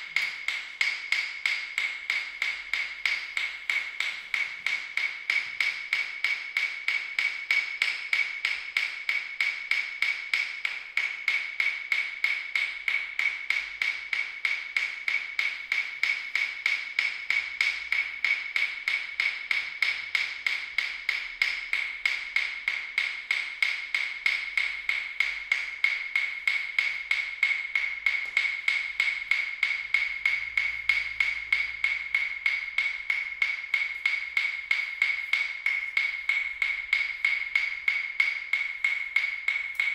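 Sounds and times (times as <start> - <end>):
fast wood-block-like ticking: 0.0 - 39.9.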